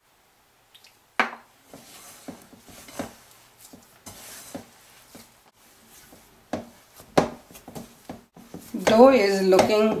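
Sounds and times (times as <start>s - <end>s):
hands kneading dough in bowl: 1.6s - 10.0s.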